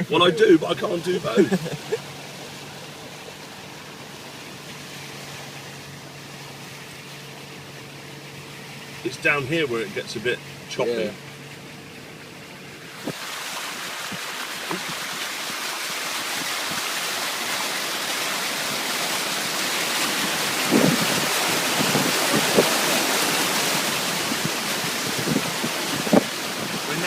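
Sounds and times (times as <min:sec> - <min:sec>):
floodwater rushing against car: 0:00.0 - 0:27.0
sharp water splashes: 0:00.0 - 0:27.0.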